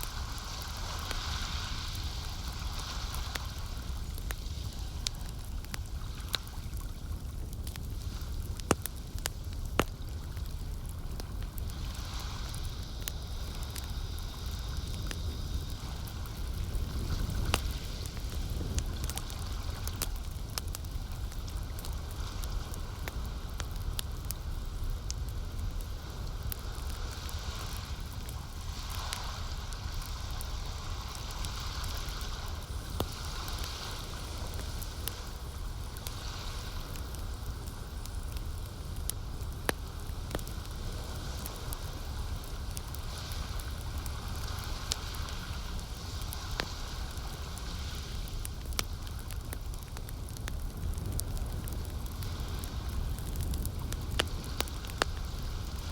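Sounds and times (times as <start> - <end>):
steady low rumble: 0.0 - 47.5
campfire crackling and popping: 0.0 - 55.9.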